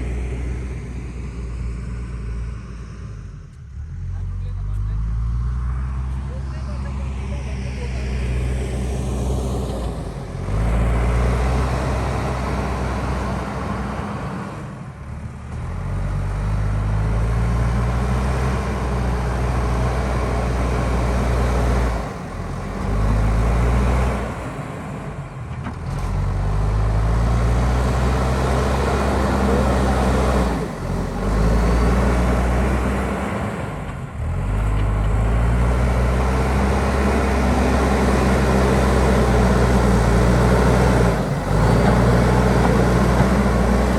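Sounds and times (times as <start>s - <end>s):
diesel engine working under load: 0.0s - 43.9s.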